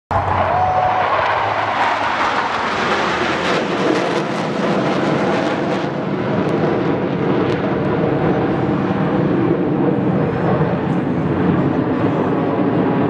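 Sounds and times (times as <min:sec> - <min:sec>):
jet engines roaring overhead: 0:00.1 - 0:13.0.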